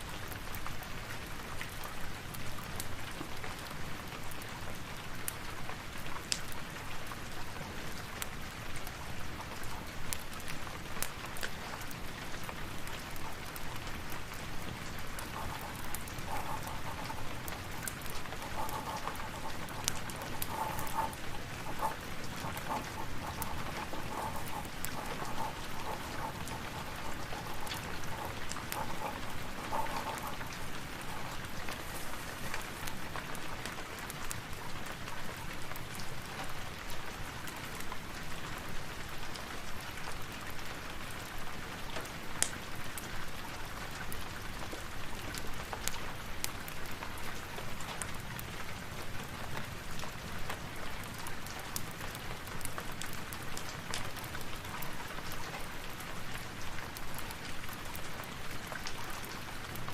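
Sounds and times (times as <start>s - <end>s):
sharp crackles and ticks: 0.0s - 59.9s
steady rain falling: 0.0s - 59.9s.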